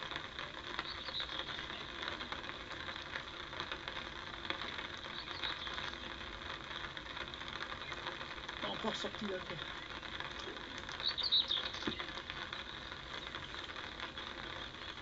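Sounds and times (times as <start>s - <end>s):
light rain on an umbrella: 0.0s - 15.0s.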